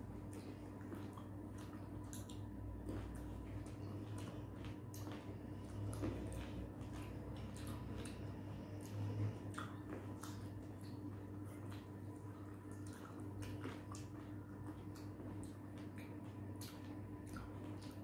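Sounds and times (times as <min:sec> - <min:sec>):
people chewing grapes: 0:00.0 - 0:18.0.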